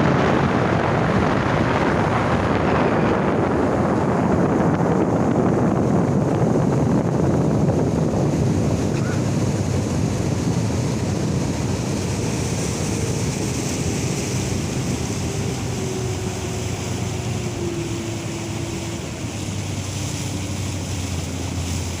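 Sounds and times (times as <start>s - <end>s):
boat engine drone: 0.0s - 22.0s
water rushing past hull: 0.0s - 22.0s
wind buffeting microphone: 0.0s - 22.0s.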